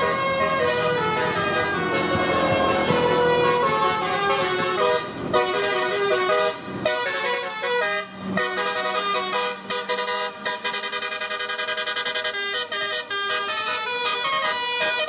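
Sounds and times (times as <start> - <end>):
multi-tone bus air horn melody: 0.0 - 15.0.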